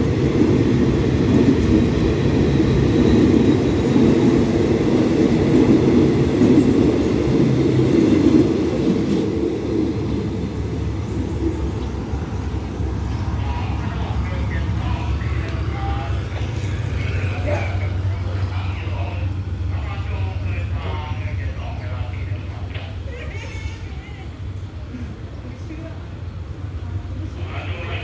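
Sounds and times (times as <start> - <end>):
passenger train rumbling: 0.0 - 28.0.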